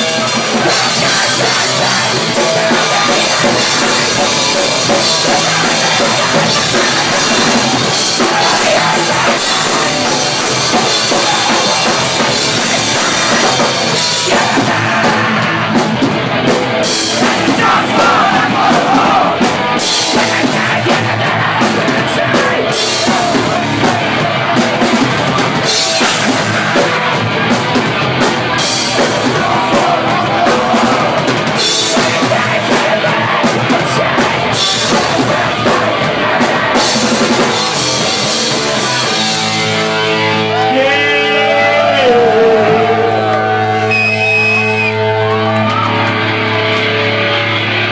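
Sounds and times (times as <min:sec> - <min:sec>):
person singing into a microphone: 0:00.0 - 0:15.8, 0:17.1 - 0:27.2, 0:28.8 - 0:39.4, 0:40.6 - 0:43.8
drum kit with cymbals: 0:00.0 - 0:40.9
bass guitar: 0:00.0 - 0:47.9
live rock band playing: 0:00.0 - 0:47.9.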